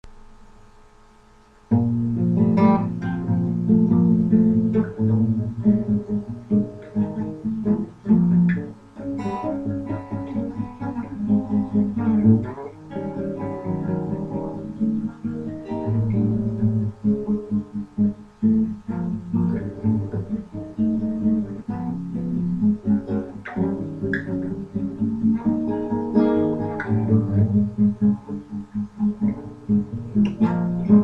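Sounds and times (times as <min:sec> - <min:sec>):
guitar plucked and strummed: 0:01.7 - 0:31.0.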